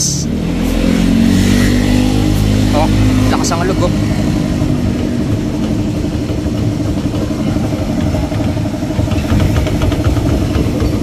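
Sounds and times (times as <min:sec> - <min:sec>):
motorcycle engine idling: 0:01.0 - 0:11.0.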